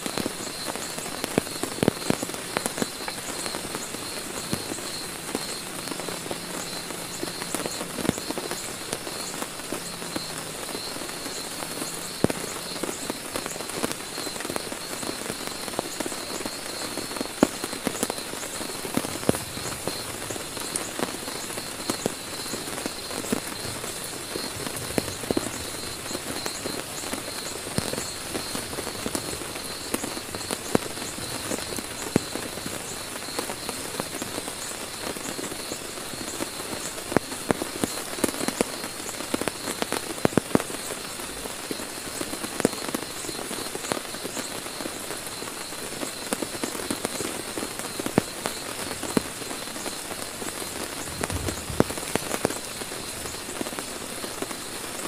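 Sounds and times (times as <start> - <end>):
heavy rain on a tent: 0.0 - 55.0
raindrops tapping on fabric: 0.0 - 55.0.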